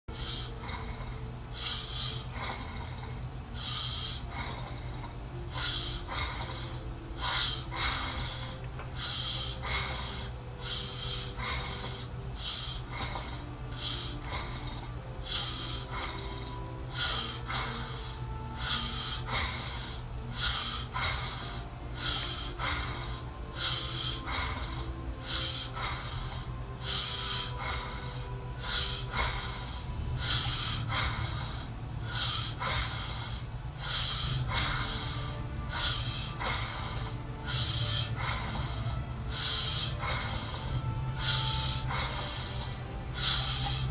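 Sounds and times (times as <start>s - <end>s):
steady low hum: 0.0s - 43.9s
man snoring: 0.1s - 43.9s.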